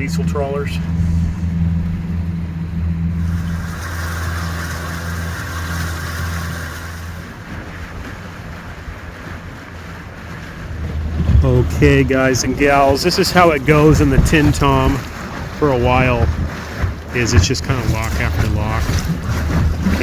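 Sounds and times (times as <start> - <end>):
boat engine running: 0.0 - 20.0
wind and water noise: 0.0 - 20.0.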